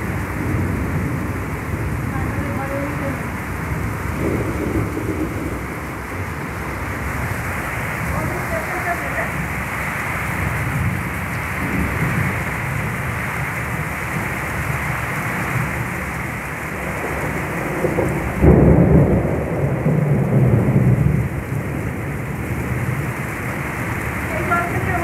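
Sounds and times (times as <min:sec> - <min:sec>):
heavy rain pouring: 0:00.0 - 0:25.0
thunderclap rumbling: 0:00.0 - 0:25.0.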